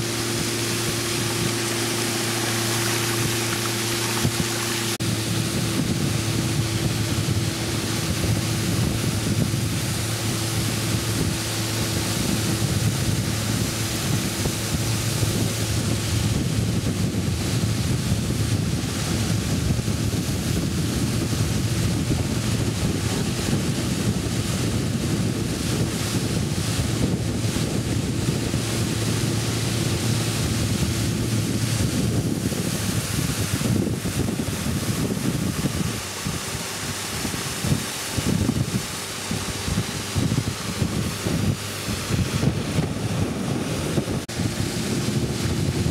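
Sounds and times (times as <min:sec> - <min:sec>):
motorboat engine running: 0:00.0 - 0:45.9
water rushing past hull: 0:00.0 - 0:45.9
wind buffeting microphone: 0:00.0 - 0:45.9.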